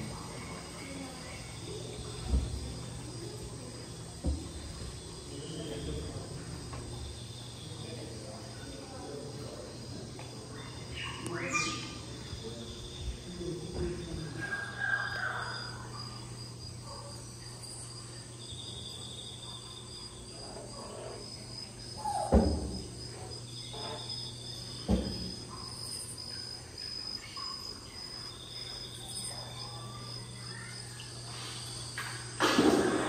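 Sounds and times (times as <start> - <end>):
insect trills: 0.0 - 33.0
steady low hum: 0.0 - 33.0.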